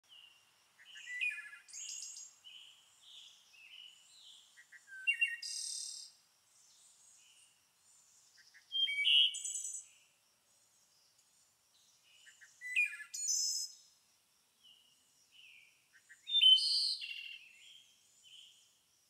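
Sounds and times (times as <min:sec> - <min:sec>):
songbirds chirping: 0:00.0 - 0:18.9.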